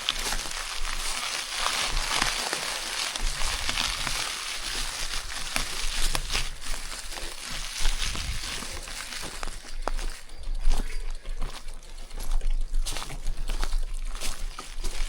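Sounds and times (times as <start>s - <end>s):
bike tyres crunching on gravel: 0.0s - 15.0s.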